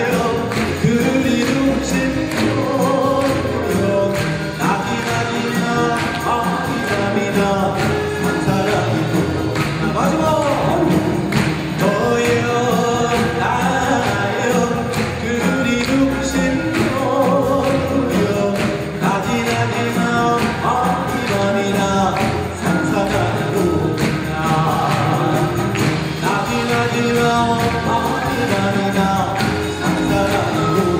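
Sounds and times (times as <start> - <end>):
man singing through a microphone: 0.0 - 30.9
percussion: 0.0 - 30.9.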